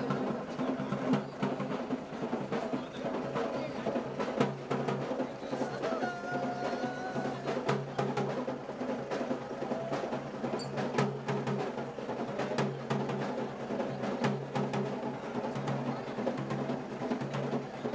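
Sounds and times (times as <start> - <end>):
drum strikes: 0.0 - 17.9.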